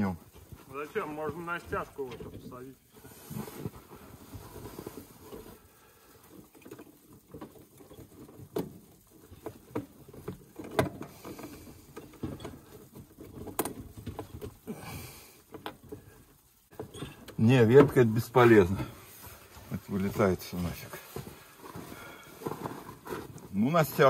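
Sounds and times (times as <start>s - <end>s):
rustling: 0.0s - 24.0s
light clicks and knocks: 3.7s - 14.7s, 15.4s - 24.0s.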